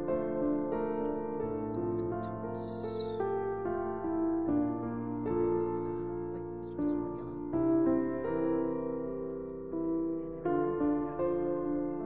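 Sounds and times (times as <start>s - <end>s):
calm piano music: 0.0s - 12.0s.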